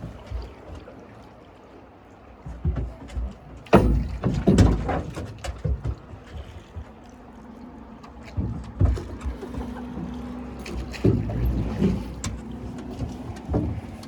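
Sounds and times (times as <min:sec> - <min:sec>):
boat knocks and low thumps: 0:00.0 - 0:01.2, 0:02.2 - 0:14.0
river water: 0:00.0 - 0:14.0.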